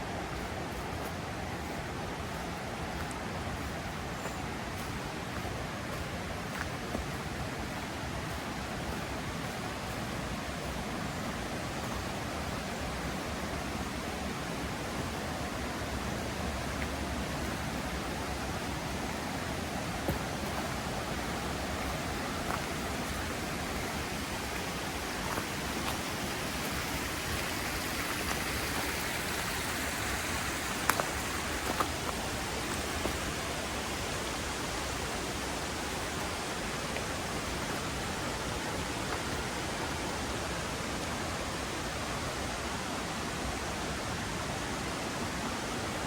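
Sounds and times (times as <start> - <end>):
river rushing over rocks: 0.0 - 46.0.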